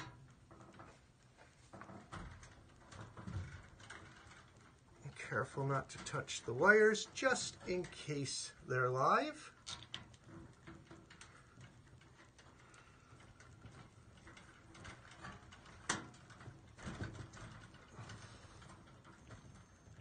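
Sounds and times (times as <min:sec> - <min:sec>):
wires twisting clicks and rustling: 0:00.0 - 0:20.0.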